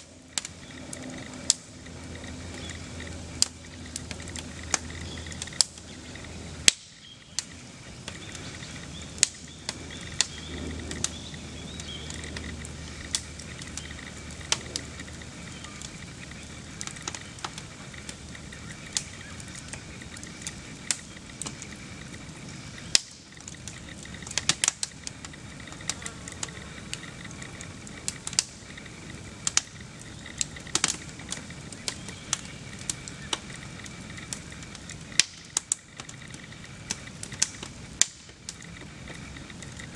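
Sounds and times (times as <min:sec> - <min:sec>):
low hiss: 0:00.0 - 0:39.9
sharp pops: 0:00.0 - 0:39.9
wood crackling in fire: 0:00.0 - 0:39.9.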